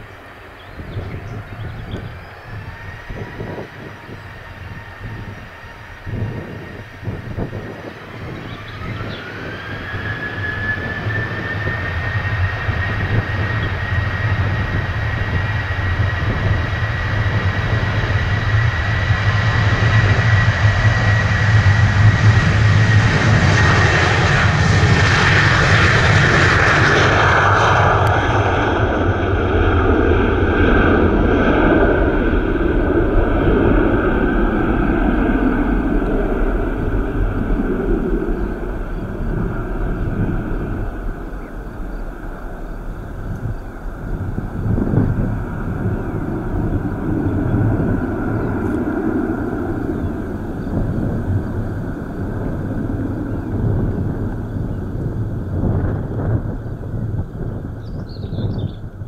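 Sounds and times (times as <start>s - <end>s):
jet engine fan whine: 0.0s - 59.0s
jet engine roar: 0.0s - 59.0s.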